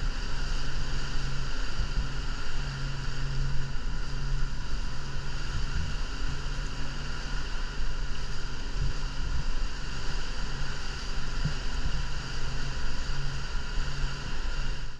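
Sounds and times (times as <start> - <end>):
motorboat engine running: 0.0 - 14.9
water noise from hull: 0.0 - 14.9
wind on microphone: 0.0 - 14.9.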